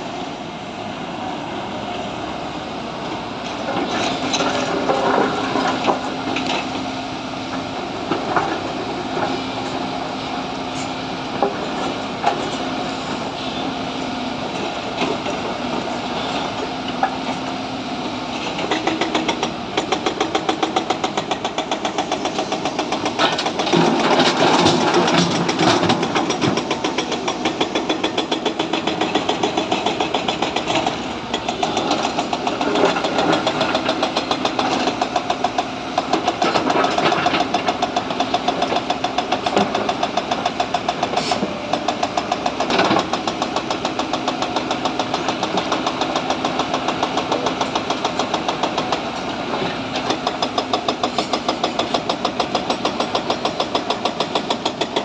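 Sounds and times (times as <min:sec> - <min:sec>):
excavator diesel engine clattering: 0:00.0 - 0:55.0.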